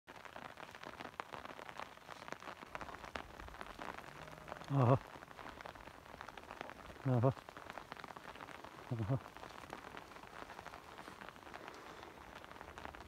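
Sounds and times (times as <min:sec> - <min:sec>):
light rain pattering: 0:00.1 - 0:13.0.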